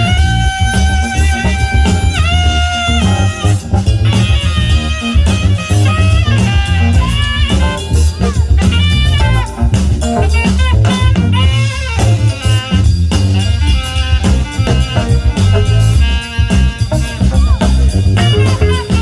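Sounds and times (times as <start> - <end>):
band playing instrumental tune: 0.0 - 19.0
bass line: 0.0 - 19.0
drum kit: 0.0 - 19.0
pitch-bending lead line: 0.0 - 19.0.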